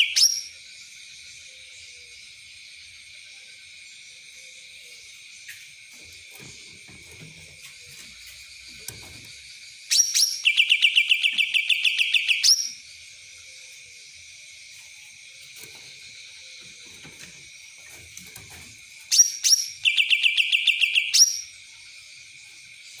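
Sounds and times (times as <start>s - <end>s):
songbird trilling song: 0.0s - 23.0s.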